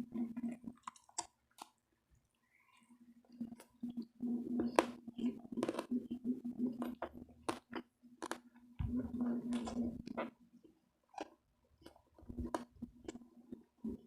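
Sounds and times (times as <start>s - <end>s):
person chewing crunchy food: 0.1s - 1.8s, 2.7s - 14.0s
low steady hum: 2.0s - 14.0s.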